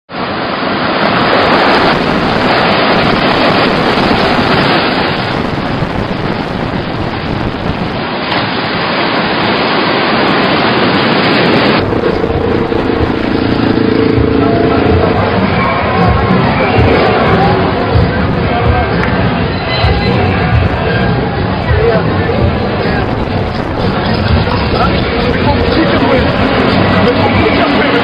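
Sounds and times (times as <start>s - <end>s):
surf breaking on beach: 0.1s - 28.0s
wind buffeting microphone: 0.7s - 28.0s.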